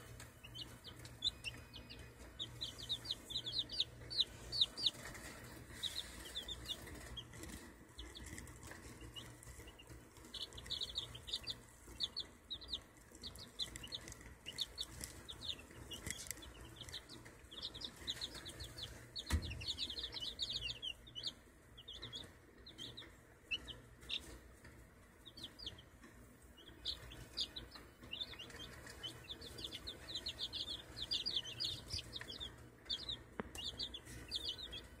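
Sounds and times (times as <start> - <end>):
chicks peeping: 0.0 - 35.0.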